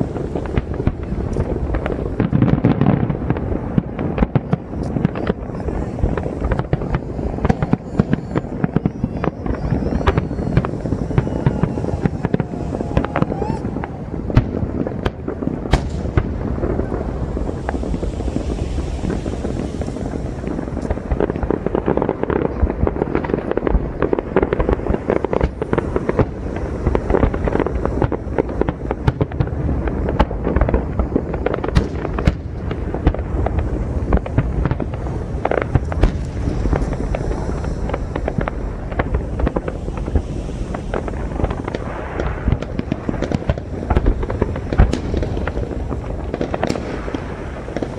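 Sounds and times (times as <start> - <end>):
firework shells bursting: 0.0 - 47.9.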